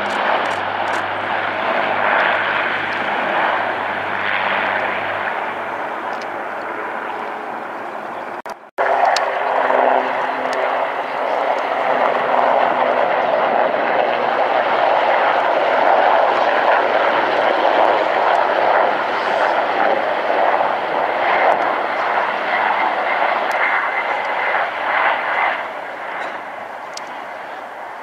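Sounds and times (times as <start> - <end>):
helicopter turbines and rotor: 0.0 - 28.0.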